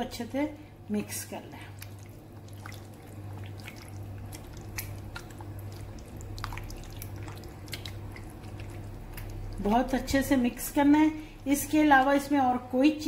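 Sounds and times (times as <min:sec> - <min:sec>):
steady low hum: 0:00.0 - 0:13.0
wet squelching of kneading: 0:00.0 - 0:13.0.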